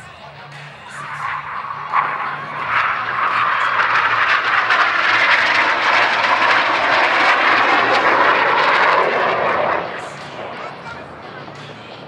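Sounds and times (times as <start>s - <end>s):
jet engine roar in flight: 0.8s - 12.0s.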